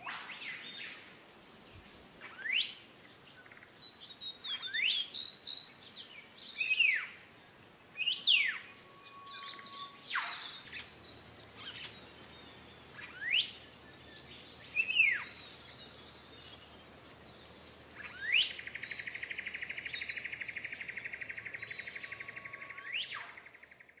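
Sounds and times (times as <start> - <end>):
songbirds whistling: 0.0 - 7.3, 8.0 - 24.0.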